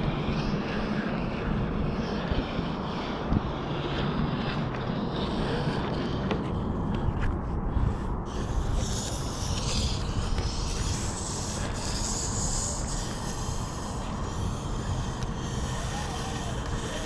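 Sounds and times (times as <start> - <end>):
rope rasping while hauled in: 0.0 - 17.0
steady low rumble: 0.0 - 17.0.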